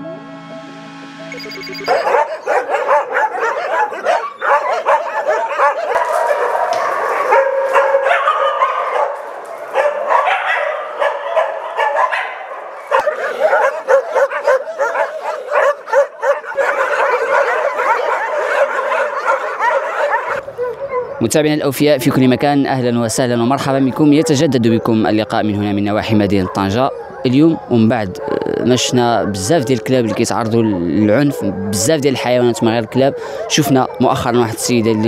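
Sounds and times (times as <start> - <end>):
many dogs barking: 1.9 - 35.0.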